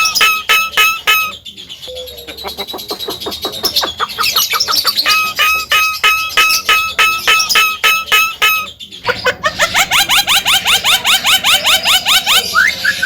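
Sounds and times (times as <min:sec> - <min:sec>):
bird singing harsh notes: 0:00.0 - 0:13.0.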